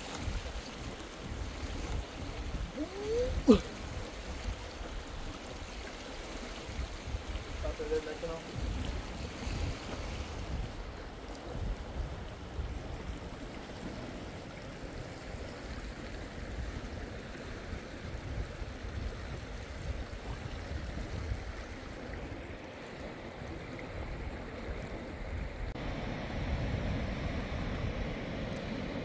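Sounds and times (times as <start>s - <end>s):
wind buffeting the microphone: 0.0s - 29.0s.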